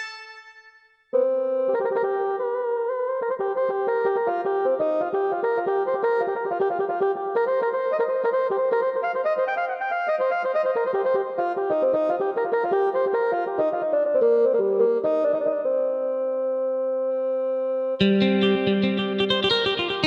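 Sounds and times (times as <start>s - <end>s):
electronic keyboard melody: 0.0s - 20.0s.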